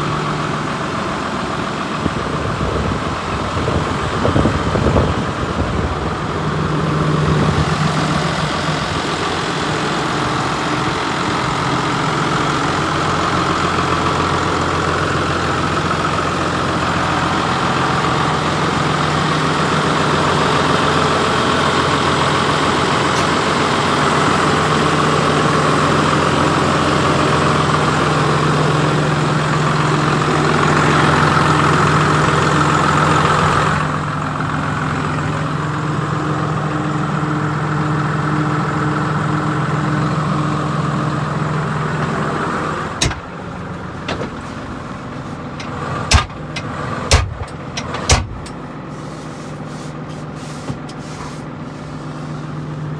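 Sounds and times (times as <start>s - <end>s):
tractor diesel engine idling: 0.0s - 52.9s.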